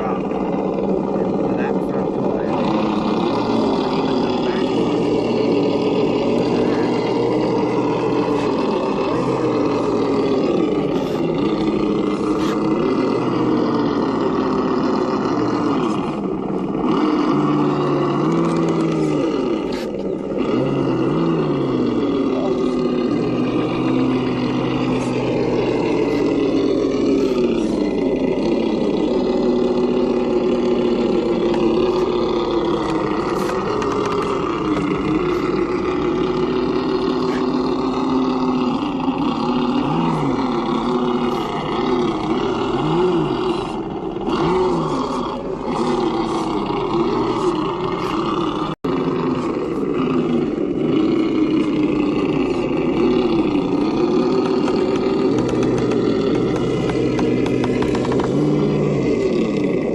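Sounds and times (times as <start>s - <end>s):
electric motor whining: 0.0s - 59.9s.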